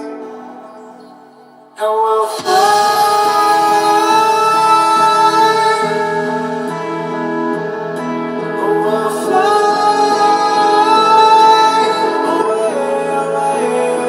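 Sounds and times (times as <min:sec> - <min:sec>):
pop song with female singer: 0:00.0 - 0:14.0.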